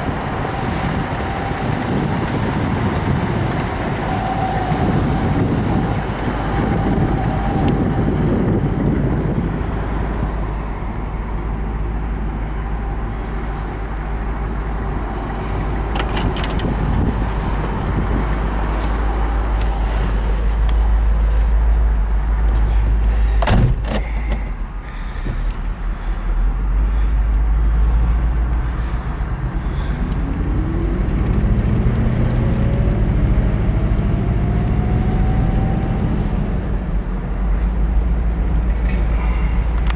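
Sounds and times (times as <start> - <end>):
car engine running: 0.0 - 35.2.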